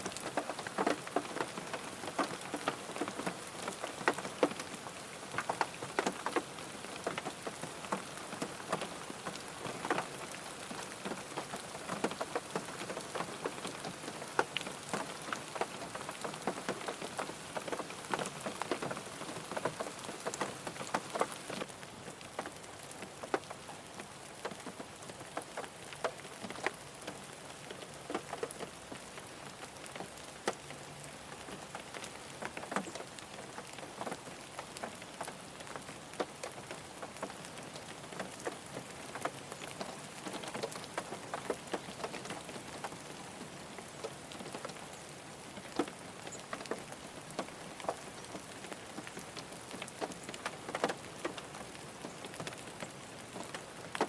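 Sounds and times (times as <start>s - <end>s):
hiss of rainfall: 0.0s - 54.0s
raindrops ticking on car body: 0.0s - 54.0s.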